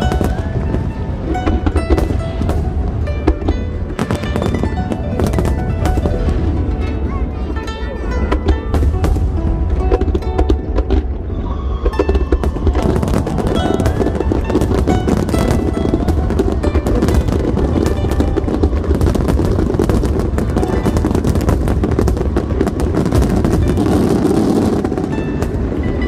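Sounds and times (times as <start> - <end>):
fireworks bursts and crackles: 0.0 - 26.0
music: 0.0 - 26.0.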